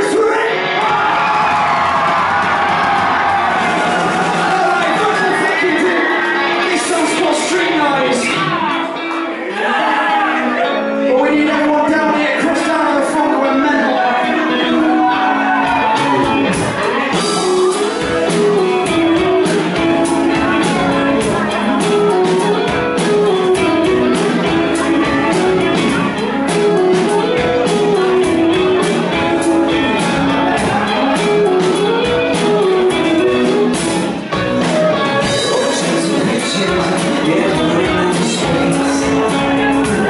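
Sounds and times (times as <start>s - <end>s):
drums: 0.0s - 10.4s, 12.3s - 40.0s
bass guitar: 0.0s - 40.0s
electric guitar: 0.0s - 40.0s.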